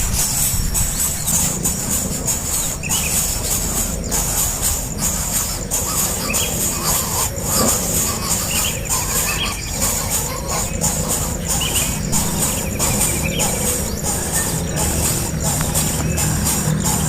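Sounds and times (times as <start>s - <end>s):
high-pitched hiss: 0.0s - 17.0s
small birds chirping: 0.0s - 17.0s
bird trilled call: 0.2s - 17.0s.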